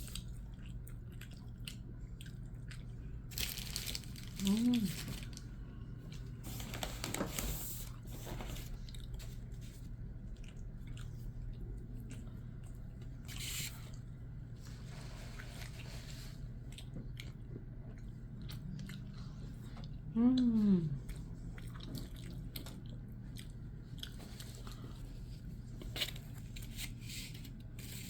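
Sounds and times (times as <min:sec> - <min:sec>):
wet chewing sounds: 0:00.0 - 0:06.4, 0:08.8 - 0:26.6.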